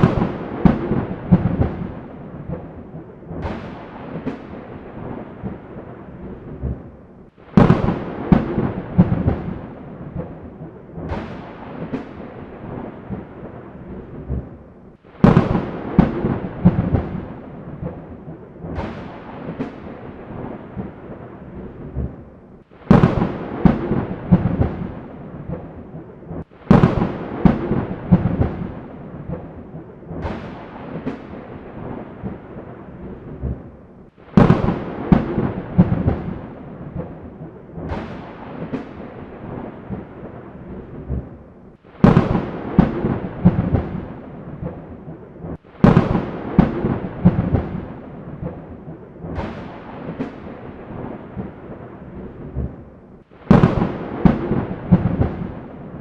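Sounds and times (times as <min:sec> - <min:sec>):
rain: 0:00.0 - 0:56.0
thunder claps: 0:00.0 - 0:56.0.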